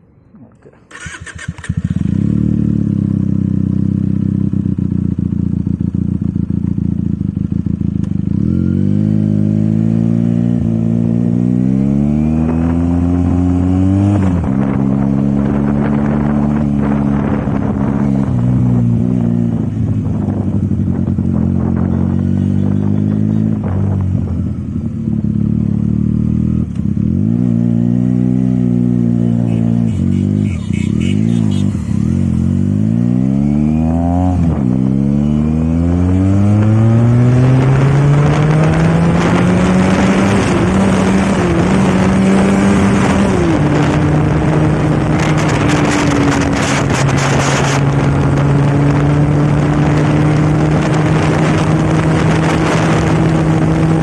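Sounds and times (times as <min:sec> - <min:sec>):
motorcycle engine revving: 0:00.6 - 0:54.0.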